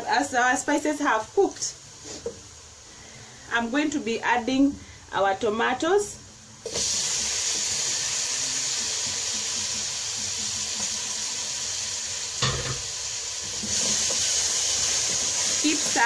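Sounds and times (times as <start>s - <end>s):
tomatoes sizzling in a pot: 0.0s - 16.0s.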